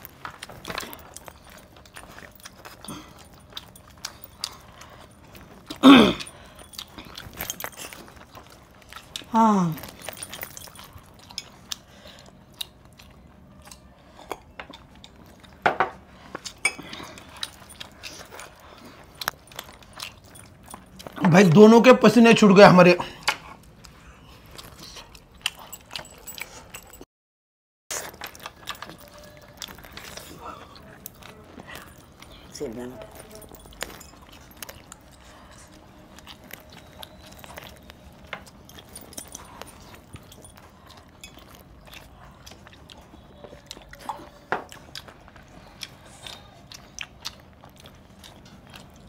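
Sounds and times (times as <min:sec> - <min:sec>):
person chewing and smacking: 0:00.0 - 0:22.0, 0:23.0 - 0:27.0, 0:27.9 - 0:49.0.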